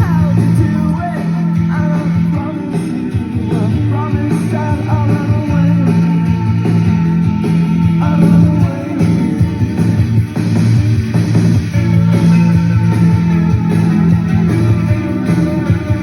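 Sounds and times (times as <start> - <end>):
rock song with singing and guitar: 0.0 - 16.0.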